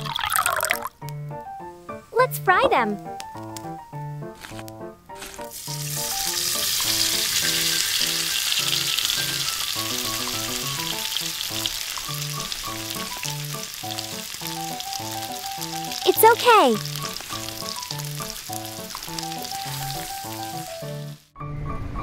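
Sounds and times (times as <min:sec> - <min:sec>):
oil sizzling and bubbling: 0:00.0 - 0:01.1, 0:04.4 - 0:21.4
plucked background melody: 0:00.0 - 0:22.0.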